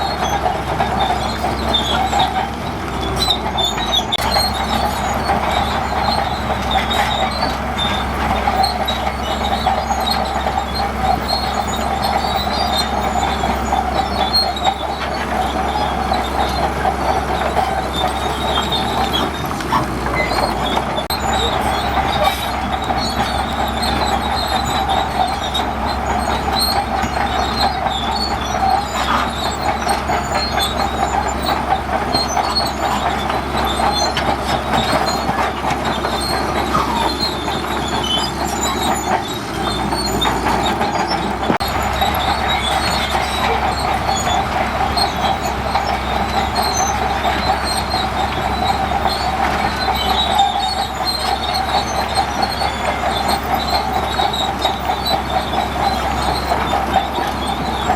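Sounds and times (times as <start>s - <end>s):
diesel engine running: 0.0s - 57.9s
steel tracks squealing and clattering: 0.0s - 57.9s.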